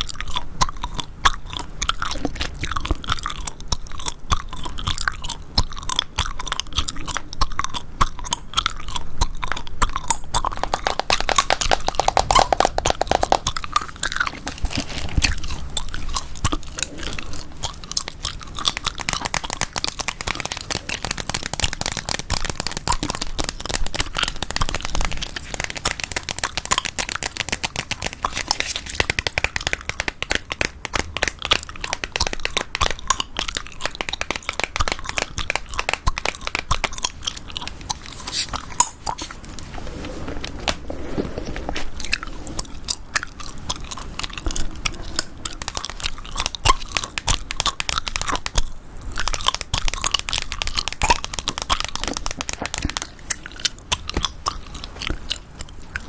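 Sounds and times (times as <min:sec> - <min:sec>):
gum chewing clicks and smacks: 0:00.0 - 0:39.6, 0:41.8 - 0:56.0.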